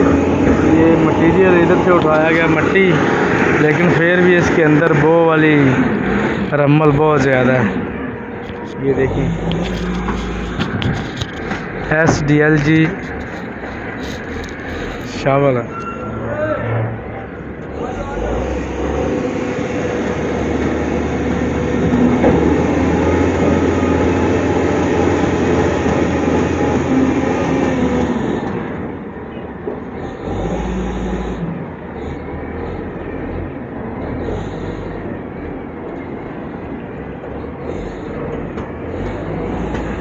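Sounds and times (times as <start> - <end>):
wheel loader diesel engine: 0.0 - 40.0.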